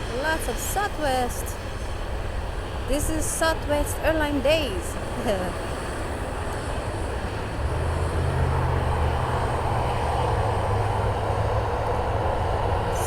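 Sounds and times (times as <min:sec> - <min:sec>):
jet airliner engines running: 0:00.0 - 0:13.0.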